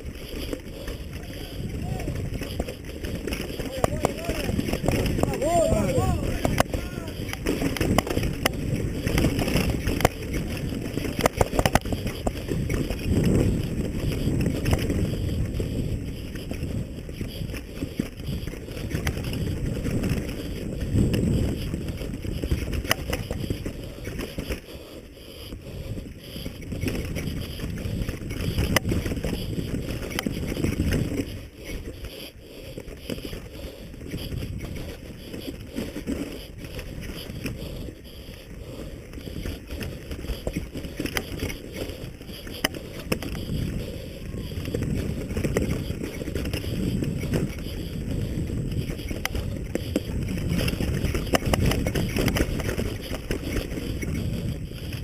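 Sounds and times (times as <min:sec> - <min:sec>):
bike rattle and tyre noise: 0:00.0 - 0:55.0
wind buffeting microphone: 0:00.0 - 0:55.0.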